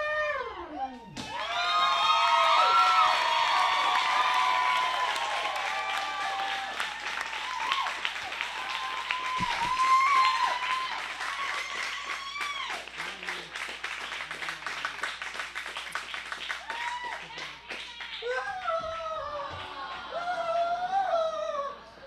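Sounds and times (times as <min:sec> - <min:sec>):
whoops and cheers: 0:00.0 - 0:12.9, 0:16.6 - 0:21.8
audience applauding: 0:01.2 - 0:20.9.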